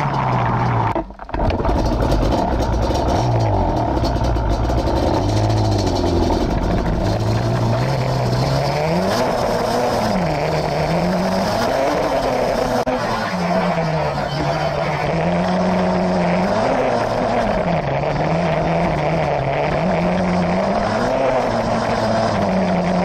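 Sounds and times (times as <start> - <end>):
atv engine revving: 0.0 - 23.0.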